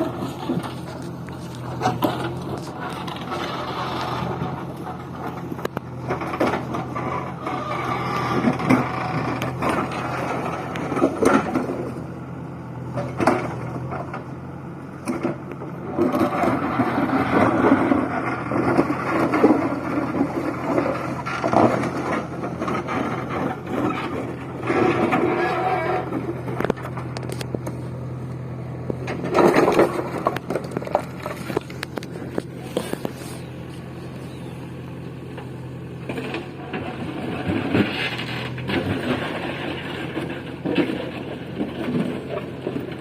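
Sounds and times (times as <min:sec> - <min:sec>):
scraping and knocking: 0:00.0 - 0:12.0, 0:15.1 - 0:28.0, 0:28.8 - 0:43.0
diesel engine running: 0:00.0 - 0:43.0.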